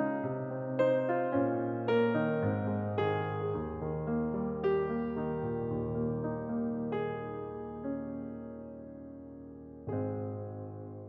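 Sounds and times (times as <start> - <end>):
slow soft piano notes: 0.0 - 11.0.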